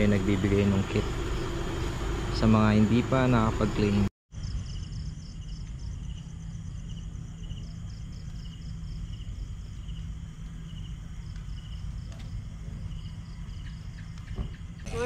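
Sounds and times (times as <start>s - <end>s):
crickets chirping: 0.0s - 15.0s
low steady rumble: 0.0s - 15.0s.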